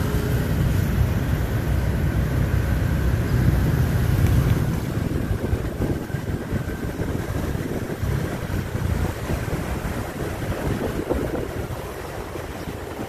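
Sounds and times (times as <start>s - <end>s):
motorbike engine rumble: 0.0s - 13.0s
street traffic: 0.0s - 13.0s
wind buffeting microphone: 0.0s - 13.0s.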